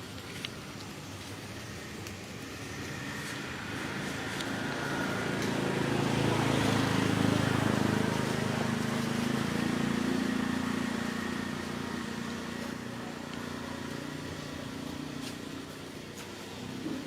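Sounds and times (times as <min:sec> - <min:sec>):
motor engine humming: 0:00.0 - 0:17.0.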